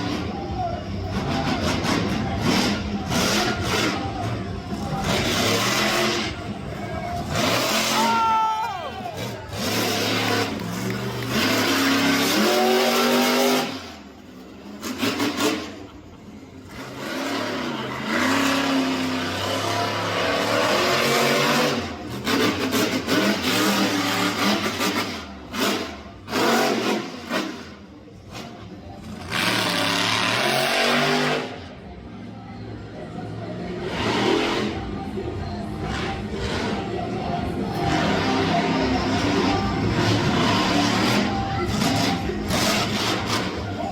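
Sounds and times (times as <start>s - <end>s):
monster truck engine revving: 0.0s - 32.0s, 33.5s - 43.9s.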